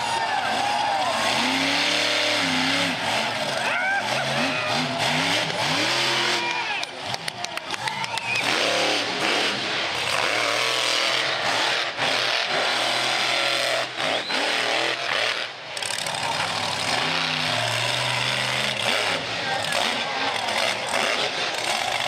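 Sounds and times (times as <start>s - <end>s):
engine crackles: 0.0s - 22.0s
truck engine revving: 0.0s - 22.0s.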